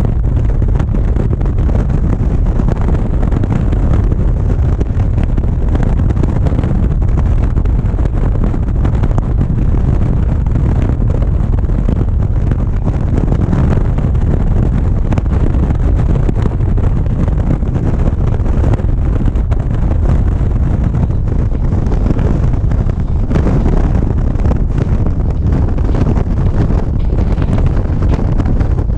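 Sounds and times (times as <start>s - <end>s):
motorcycle engine running: 0.0s - 28.9s
wind rumble on microphone: 0.0s - 28.9s.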